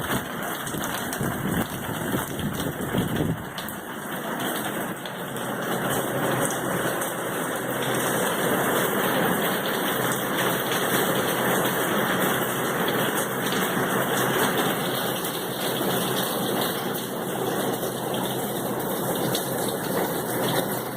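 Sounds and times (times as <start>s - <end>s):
heavy rain pouring: 0.0s - 20.9s.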